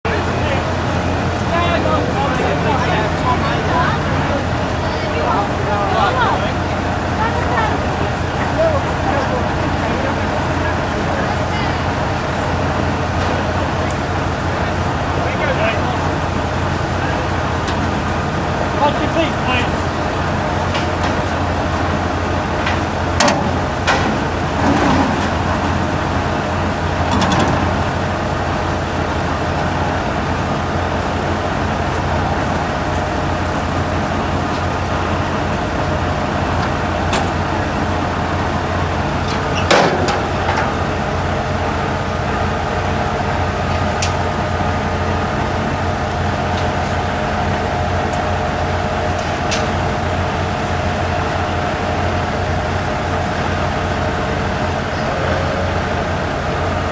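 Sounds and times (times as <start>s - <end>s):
truck engine running: 0.0s - 56.9s.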